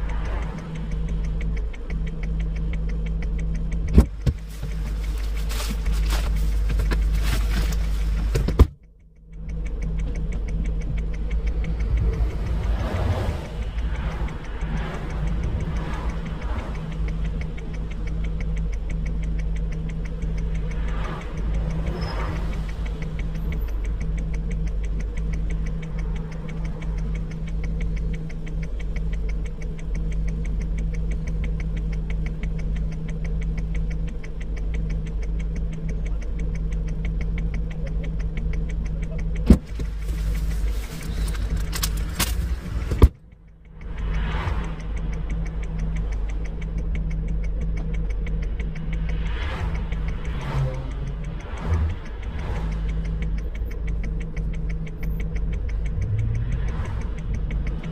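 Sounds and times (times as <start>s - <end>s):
engine idling with fast ticking: 0.0s - 57.9s
sharp click: 0.0s - 57.9s.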